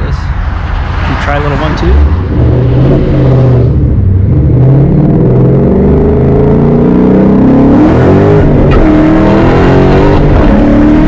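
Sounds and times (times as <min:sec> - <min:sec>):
engine revving at full throttle: 0:01.9 - 0:11.0.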